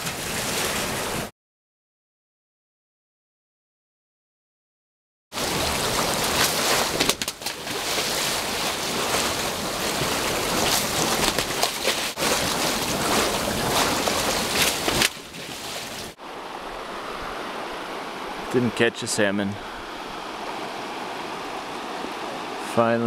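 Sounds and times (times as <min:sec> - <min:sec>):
water rushing through channel: 0:00.0 - 0:01.3, 0:05.4 - 0:23.0.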